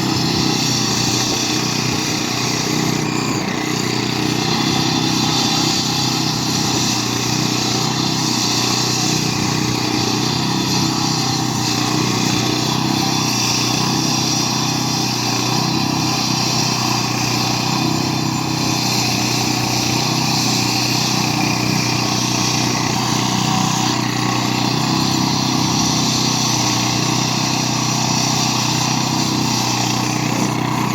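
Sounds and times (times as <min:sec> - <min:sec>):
concrete saw engine drone: 0:00.0 - 0:30.9.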